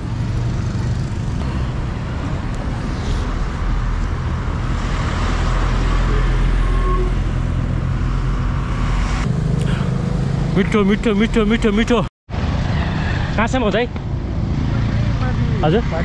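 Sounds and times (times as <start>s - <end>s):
low traffic rumble: 0.0s - 16.0s
vehicle engine and tyre noise: 0.0s - 16.0s.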